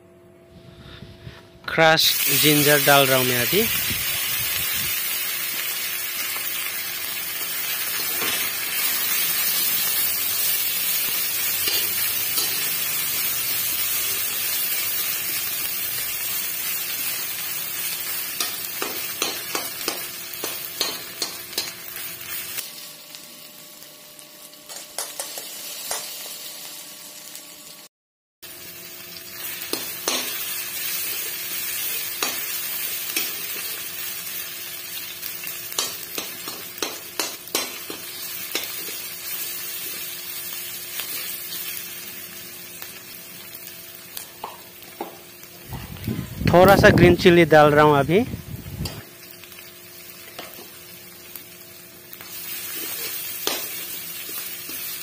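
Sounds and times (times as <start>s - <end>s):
ginger sizzling in hot oil: 1.9s - 55.0s.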